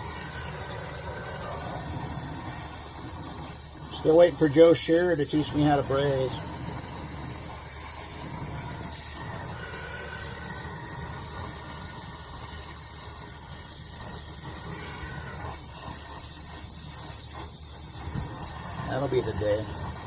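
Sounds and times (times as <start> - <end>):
brazing torch flame hissing: 0.0 - 20.0.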